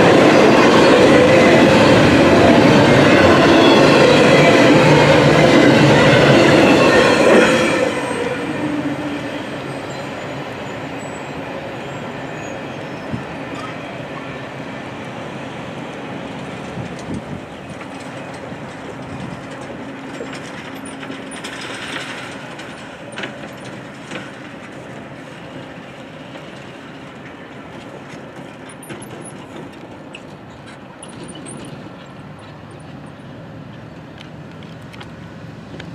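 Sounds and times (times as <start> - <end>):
freight train wheels rumbling: 0.0 - 35.9.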